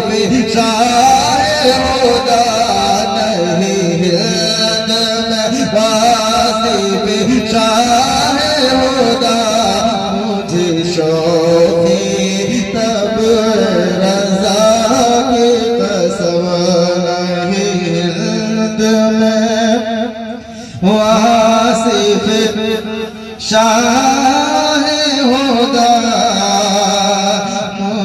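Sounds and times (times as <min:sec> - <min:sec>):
man singing ornamented melody: 0:00.0 - 0:28.0.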